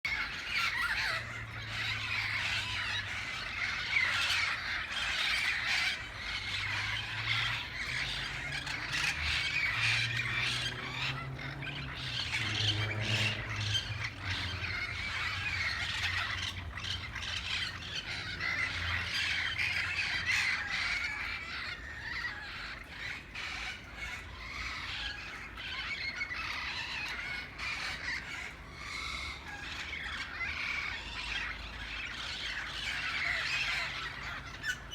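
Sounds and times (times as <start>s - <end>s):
parrots squawking: 0.1s - 34.9s.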